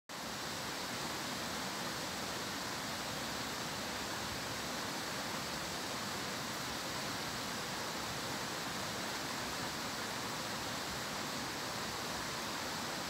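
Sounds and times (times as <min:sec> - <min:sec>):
stream rushing over rocks: 0:00.1 - 0:13.0.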